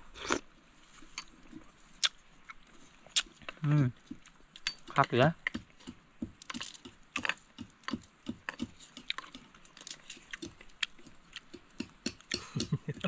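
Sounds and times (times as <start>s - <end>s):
person chewing food: 0.1s - 13.0s.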